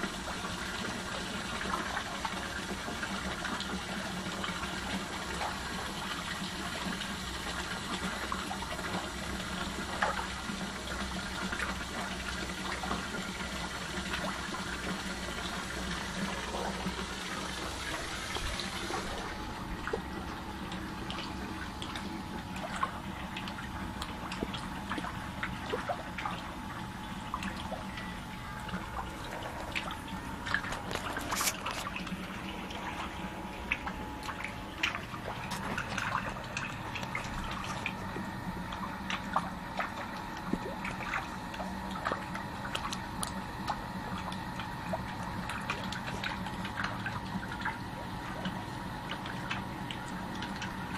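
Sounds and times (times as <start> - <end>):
water running: 0.0 - 50.9.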